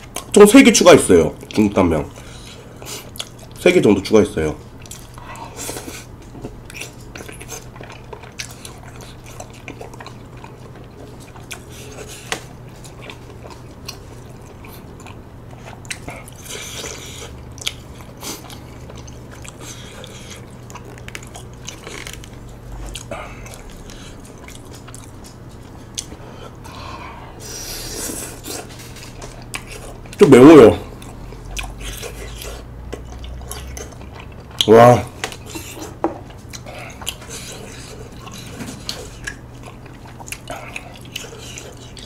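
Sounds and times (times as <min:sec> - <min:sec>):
chewing and biting food: 0:00.0 - 0:42.0
steady low hum: 0:00.0 - 0:42.0.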